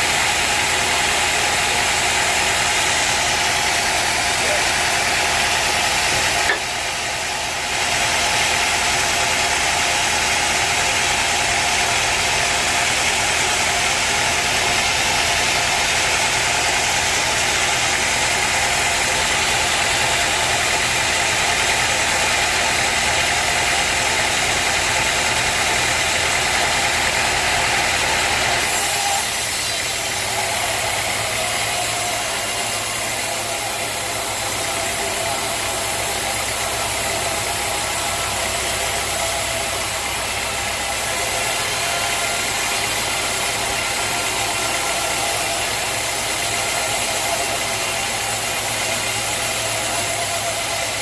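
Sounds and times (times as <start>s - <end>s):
sawmill engine running: 0.0s - 51.0s.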